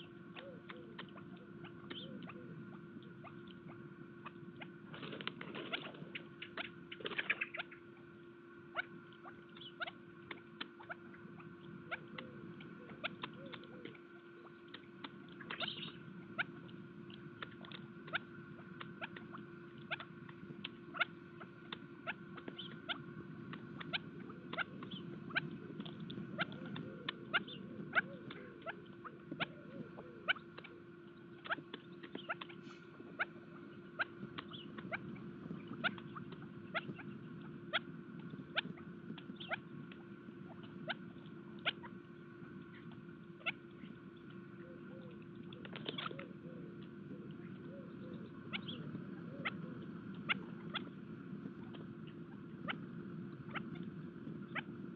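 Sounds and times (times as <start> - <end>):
birds pecking seed on feeder: 0.0 - 7.8, 8.7 - 54.9
faint steady hum: 0.0 - 54.9.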